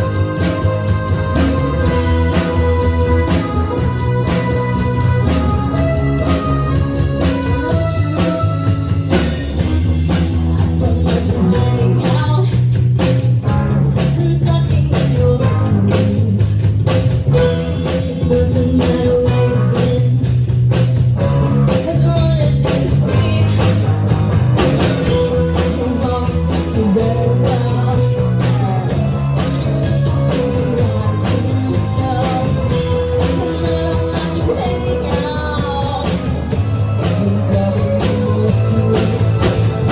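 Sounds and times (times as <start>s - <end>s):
person singing: 0.0s - 8.9s, 10.3s - 12.7s, 13.9s - 16.5s, 17.4s - 20.3s, 21.2s - 24.0s, 24.9s - 39.9s
bass guitar: 0.0s - 39.9s
drums: 0.0s - 39.9s
electric guitar: 0.0s - 39.9s.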